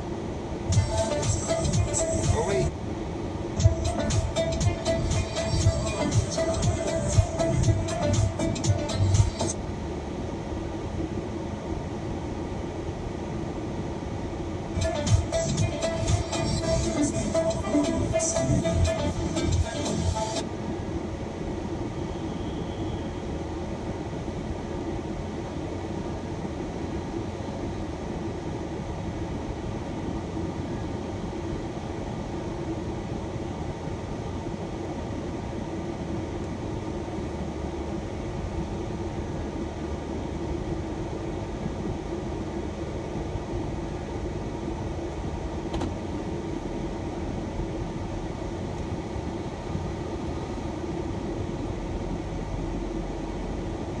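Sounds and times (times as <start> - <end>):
faint steady hum: 0.0 - 54.0
van engine and fans rumbling: 0.0 - 54.0.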